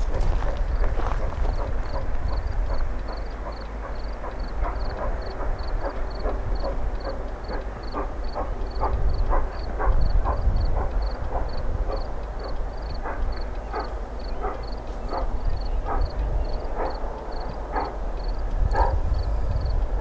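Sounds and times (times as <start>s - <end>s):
fast clicking of train wheels: 0.0s - 20.0s
train rumbling on rails: 0.0s - 20.0s.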